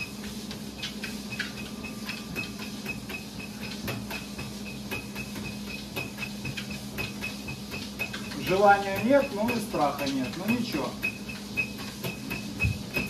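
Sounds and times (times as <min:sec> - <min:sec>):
treadmill motor hum: 0:00.0 - 0:13.0.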